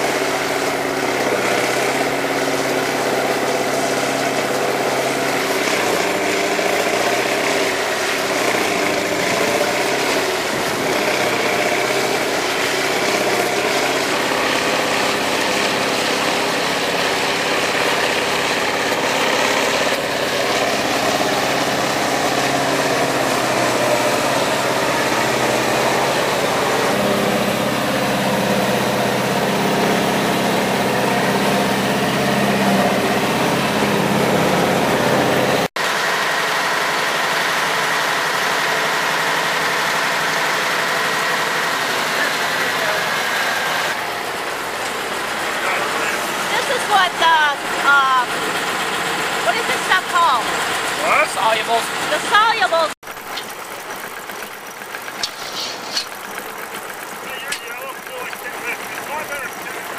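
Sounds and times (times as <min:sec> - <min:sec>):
diesel engine running: 0:00.0 - 0:59.9
tub grinder grinding hay: 0:00.0 - 0:59.9.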